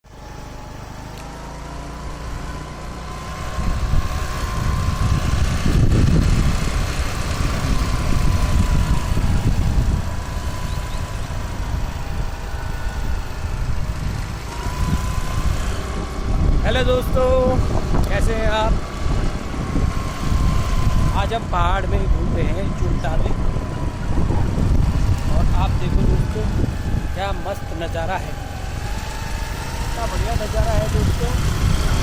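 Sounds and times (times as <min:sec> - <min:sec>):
scooter engine rumbling: 0:00.1 - 0:32.0.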